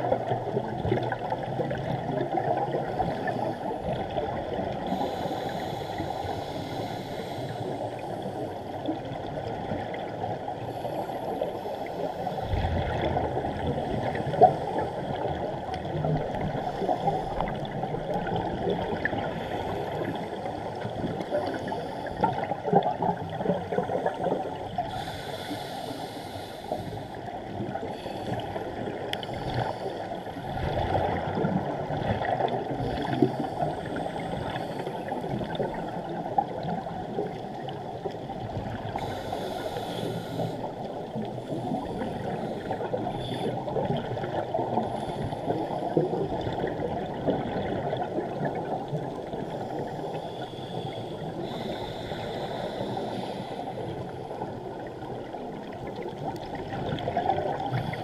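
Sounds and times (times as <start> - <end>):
muffled underwater bubbling: 0.0 - 58.0
scuba regulator exhaust bubbles: 0.0 - 58.0.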